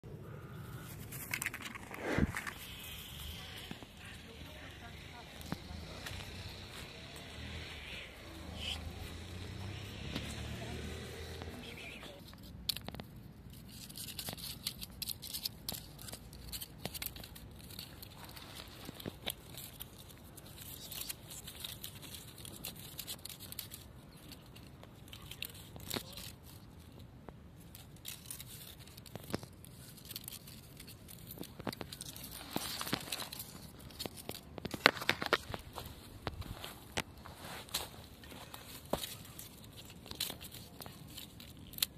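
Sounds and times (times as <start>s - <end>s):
rustling dry grass and leaves: 0.1s - 41.9s
kitten claws scratching tree trunk: 0.9s - 41.9s.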